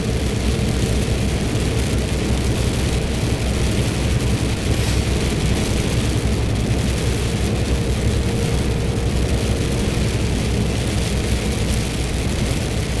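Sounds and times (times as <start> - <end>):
hiss of wet road and rain: 0.0 - 13.0
lorry diesel engine running: 0.0 - 13.0.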